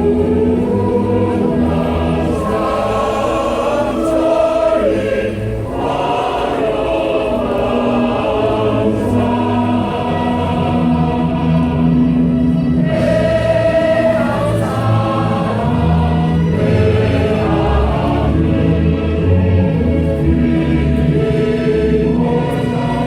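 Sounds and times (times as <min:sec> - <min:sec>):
choir singing slow song: 0:00.0 - 0:23.0.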